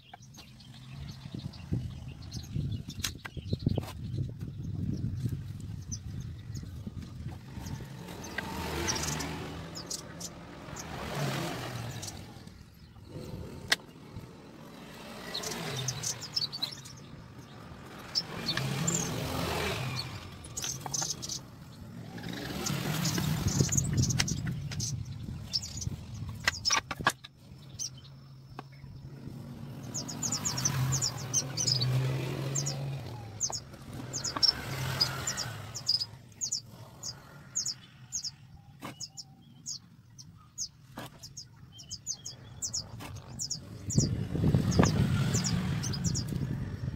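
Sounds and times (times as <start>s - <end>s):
birds chirping: 0.0s - 46.9s
vehicles passing by: 0.0s - 46.9s.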